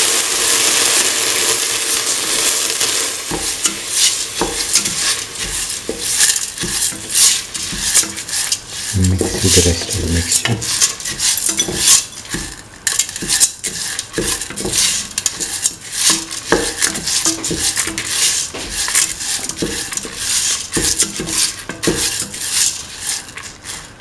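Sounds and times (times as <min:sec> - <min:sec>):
wooden spatula scraping metal pan: 0:03.3 - 0:24.0.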